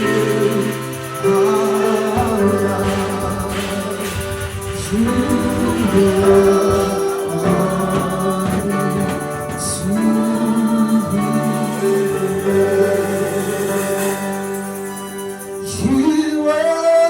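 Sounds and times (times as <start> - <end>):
gospel music group singing: 0.0 - 17.0.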